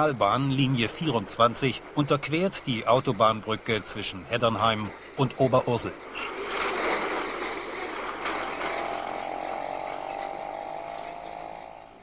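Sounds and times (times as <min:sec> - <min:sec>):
tram rattling on rails: 0:00.0 - 0:12.0.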